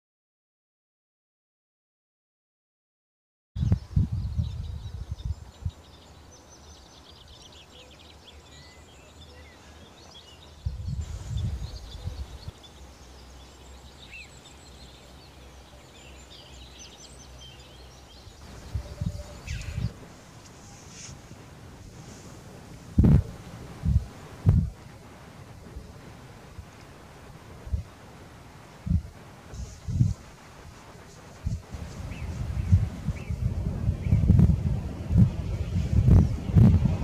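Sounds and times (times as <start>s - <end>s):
wind gusting on microphone: 3.6s - 7.5s, 9.9s - 37.0s
birds chirping: 3.6s - 28.1s, 28.9s - 37.0s.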